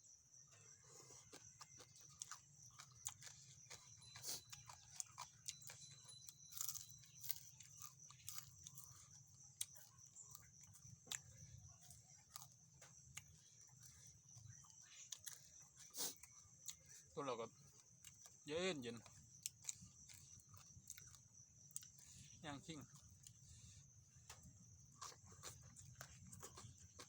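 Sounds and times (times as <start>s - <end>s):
crickets chirring: 0.0s - 27.0s
person chewing and smacking food: 0.6s - 27.0s.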